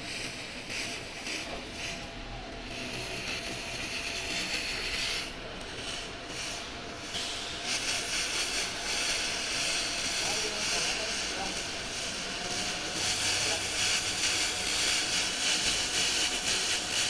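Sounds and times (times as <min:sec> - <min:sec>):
laser cleaner hissing: 0:00.0 - 0:17.0.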